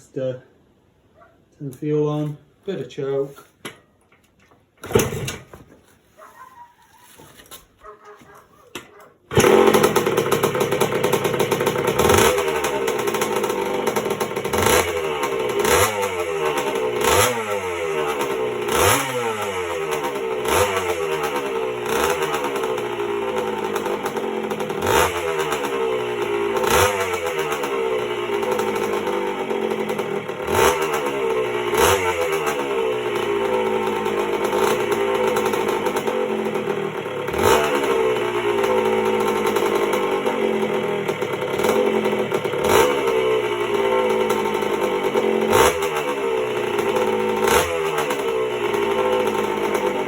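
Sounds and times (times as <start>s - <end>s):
two-stroke motorcycle engine revving: 9.3s - 50.0s.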